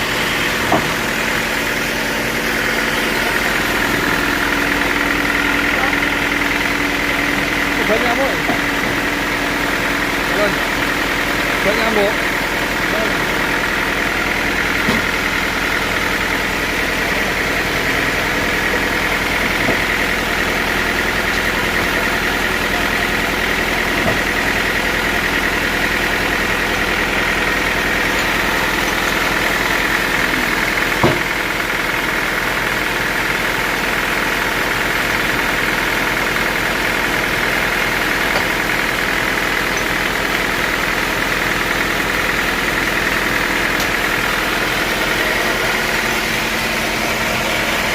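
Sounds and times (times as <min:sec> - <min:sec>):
sawmill machinery humming: 0:00.0 - 0:47.9.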